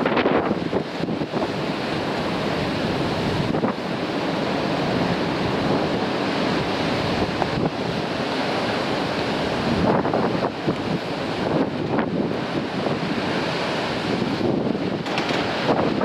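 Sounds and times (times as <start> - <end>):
surf breaking over rocks: 0.0 - 16.0
wind buffeting microphone: 0.0 - 16.0.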